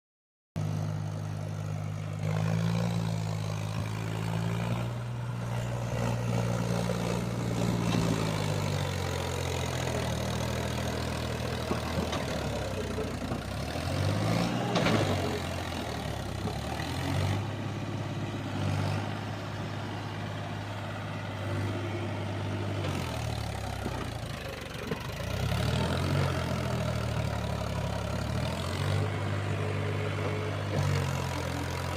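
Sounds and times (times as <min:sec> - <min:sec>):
tractor diesel engine idling and revving: 0:00.6 - 0:31.9.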